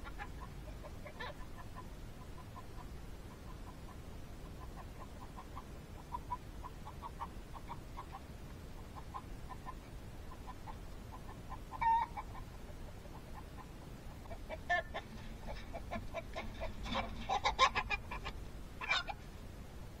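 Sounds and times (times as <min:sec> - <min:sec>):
chickens clucking: 0:00.0 - 0:19.5.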